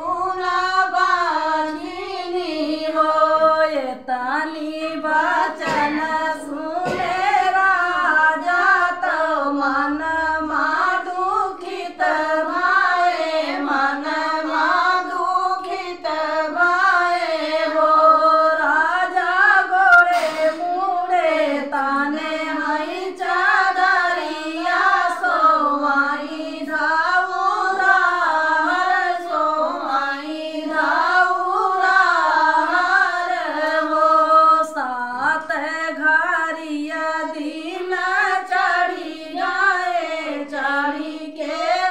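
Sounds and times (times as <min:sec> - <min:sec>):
women singing folk song in unison: 0:00.0 - 0:41.9.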